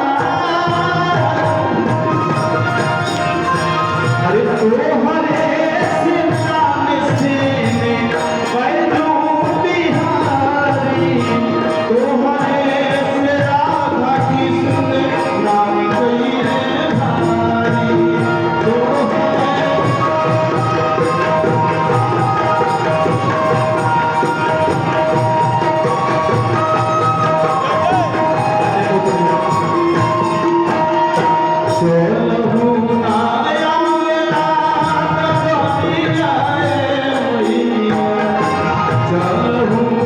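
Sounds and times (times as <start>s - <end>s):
devotional folk music: 0.0s - 40.0s
percussion beat: 0.0s - 40.0s
person singing: 0.0s - 40.0s.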